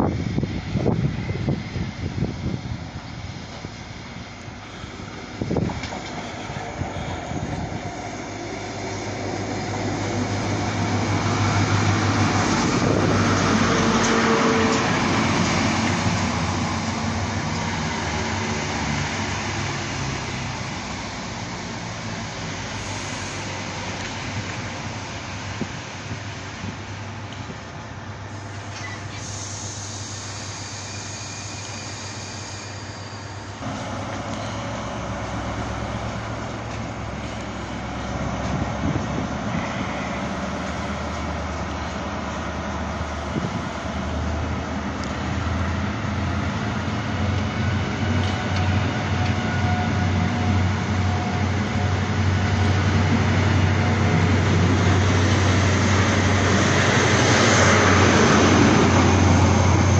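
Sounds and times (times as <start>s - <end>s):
diesel engine rumble: 0.0s - 59.9s.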